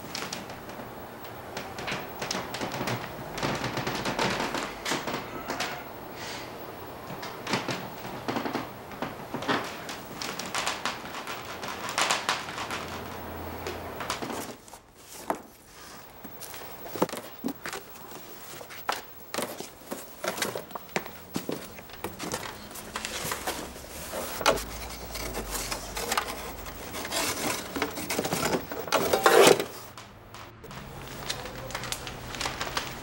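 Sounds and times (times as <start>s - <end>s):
paper rustling and crinkling: 0.0s - 5.9s, 7.1s - 33.0s.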